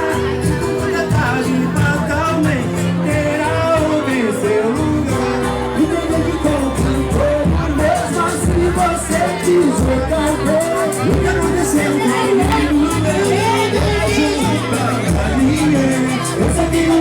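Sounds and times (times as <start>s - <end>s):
live band playing: 0.0s - 17.0s
voices singing: 0.0s - 17.0s.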